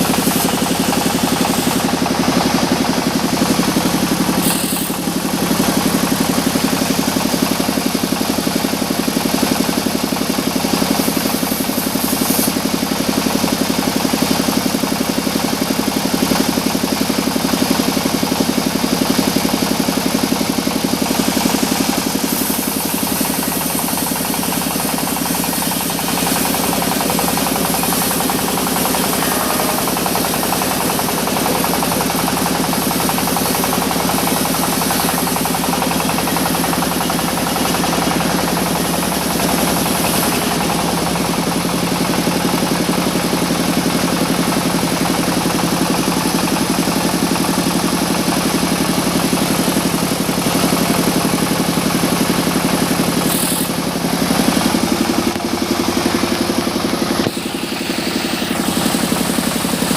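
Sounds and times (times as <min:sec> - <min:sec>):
sawmill saw cutting timber: 0:00.0 - 0:59.9.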